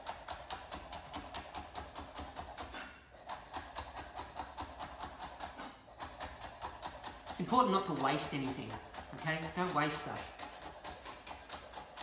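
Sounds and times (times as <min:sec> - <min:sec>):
knife chopping on cutting board: 0:00.0 - 0:12.0.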